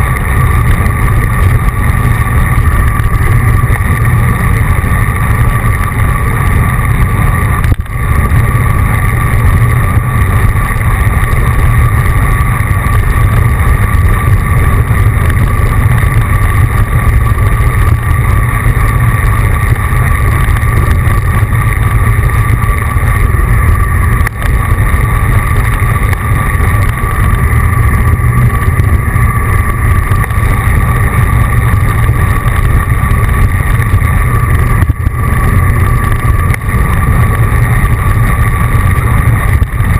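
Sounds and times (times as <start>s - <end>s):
faint steady hum: 0.0s - 39.9s
wind rumble on microphone: 0.0s - 39.9s.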